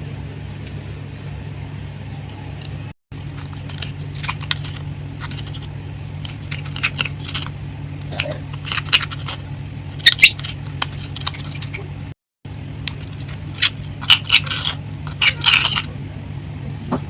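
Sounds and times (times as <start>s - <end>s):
chalk crust cracking and crunching: 0.0s - 16.1s
steady low hum: 0.0s - 17.0s.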